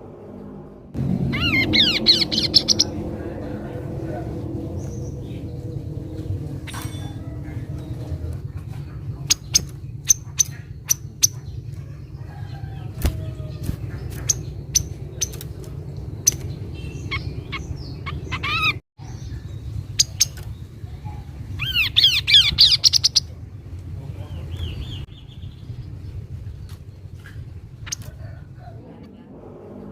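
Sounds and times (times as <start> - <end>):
low rumble: 0.0 - 29.9
bird chipping and trilling: 1.3 - 3.1, 4.7 - 23.4, 24.3 - 28.8.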